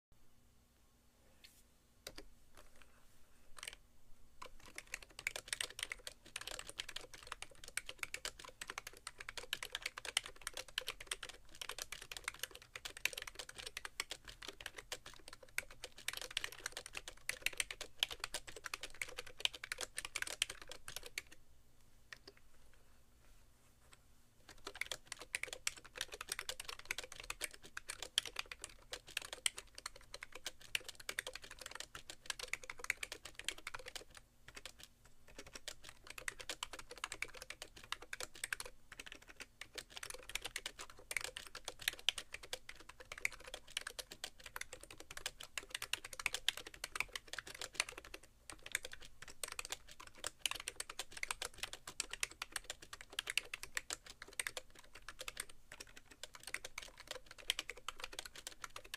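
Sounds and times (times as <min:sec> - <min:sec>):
fast keyboard typing: 0:03.6 - 0:03.8, 0:04.4 - 0:21.4, 0:24.4 - 0:58.9.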